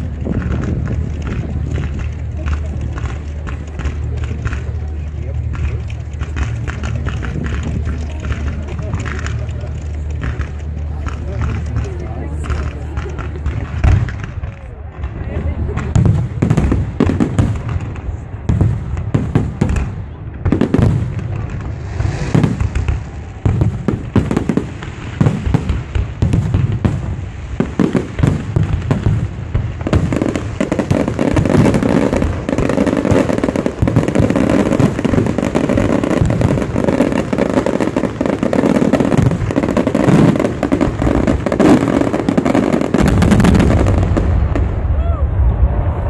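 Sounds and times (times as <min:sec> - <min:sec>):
fireworks bangs and crackling: 0:00.0 - 0:46.0.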